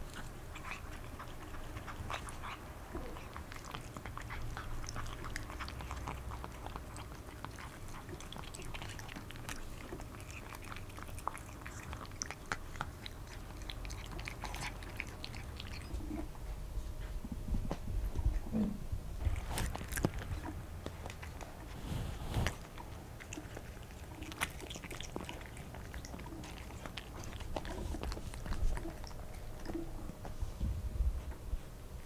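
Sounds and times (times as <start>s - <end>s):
kitten crunching a treat: 0.0s - 17.1s, 19.2s - 30.4s.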